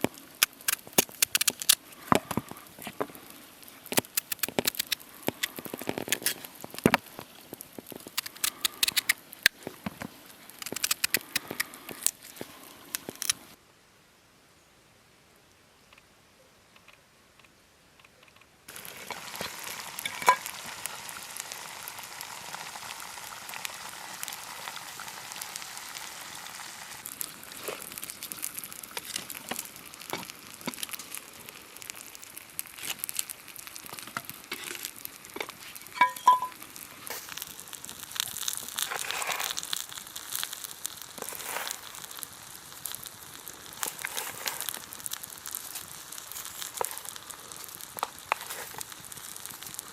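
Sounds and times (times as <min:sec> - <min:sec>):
omelette sizzling in a pan: 0:00.0 - 0:13.6, 0:18.7 - 0:49.9.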